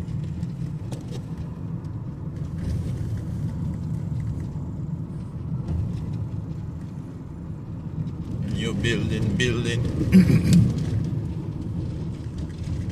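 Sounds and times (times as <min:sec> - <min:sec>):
car engine rumble: 0:00.0 - 0:12.9
tyres on road: 0:00.0 - 0:12.9.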